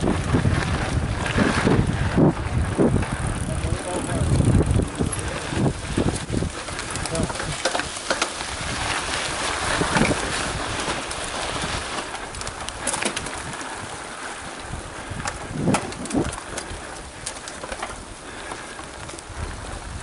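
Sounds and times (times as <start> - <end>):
bike tyre noise on dirt: 0.0 - 20.0
wind rush on microphone: 0.0 - 20.0
bike clicks and knocks: 2.8 - 20.0.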